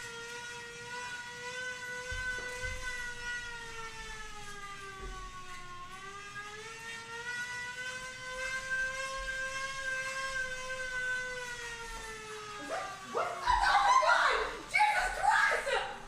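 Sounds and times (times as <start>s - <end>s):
tornado siren wailing: 0.0s - 16.0s.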